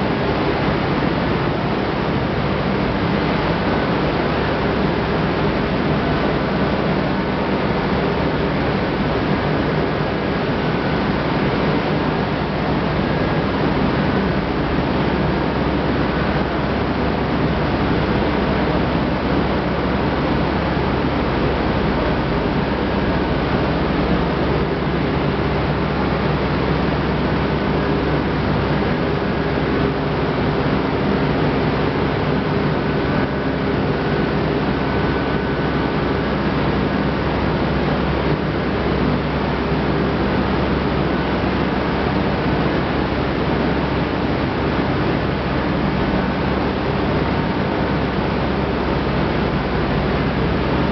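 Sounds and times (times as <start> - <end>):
factory machinery drone: 0.0 - 50.9.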